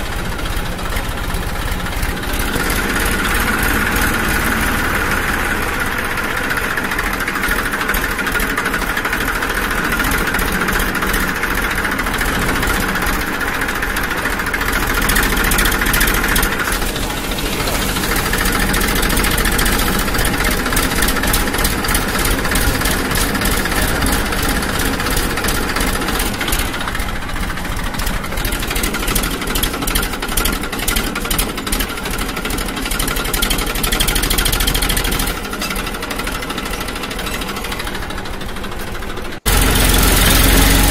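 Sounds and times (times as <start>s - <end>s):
motor running loudly: 0.0s - 40.9s.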